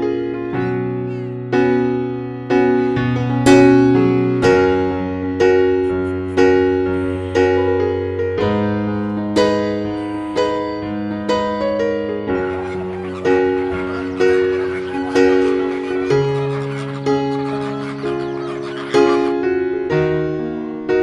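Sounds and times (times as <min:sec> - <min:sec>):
slow piano melody: 0:00.0 - 0:21.0.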